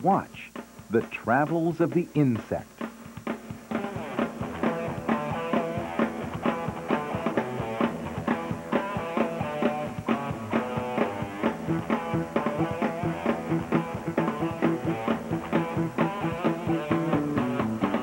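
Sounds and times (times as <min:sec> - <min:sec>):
rock music with guitar and drums: 0:00.6 - 0:18.0.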